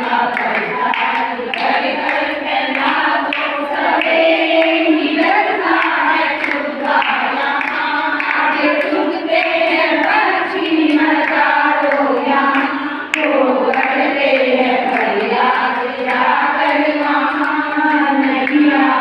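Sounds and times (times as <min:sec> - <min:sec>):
hands clapping in time: 0:00.0 - 0:10.3, 0:10.9 - 0:19.0
women singing a hymn in unison: 0:00.0 - 0:19.0.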